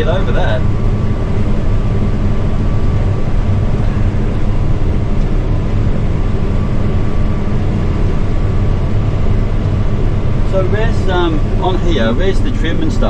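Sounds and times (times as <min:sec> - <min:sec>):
combine harvester engine drone: 0:00.0 - 0:13.0
faint machinery whine: 0:00.0 - 0:13.0.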